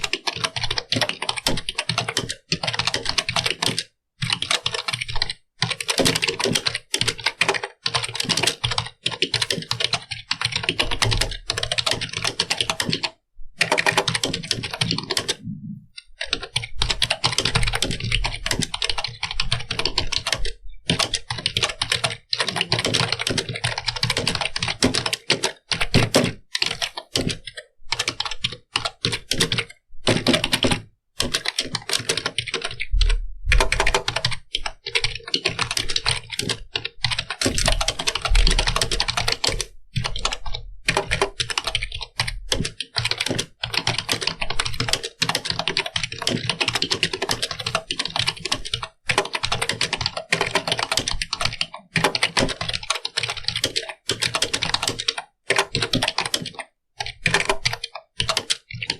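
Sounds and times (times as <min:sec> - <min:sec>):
typing on computer keyboard: 0:00.0 - 0:58.9.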